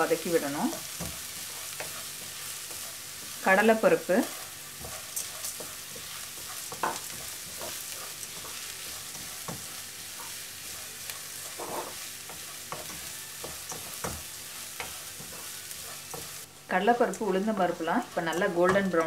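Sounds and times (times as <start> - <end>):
food sizzling in oil: 0.0 - 19.0
spatula scraping a pan: 0.3 - 16.5.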